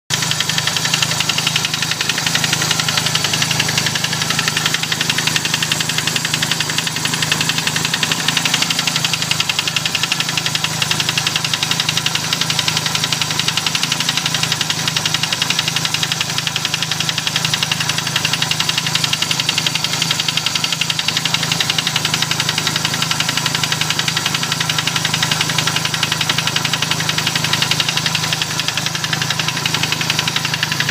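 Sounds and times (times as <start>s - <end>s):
car engine running: 0.1s - 30.9s
fast even engine ticking: 0.1s - 30.9s.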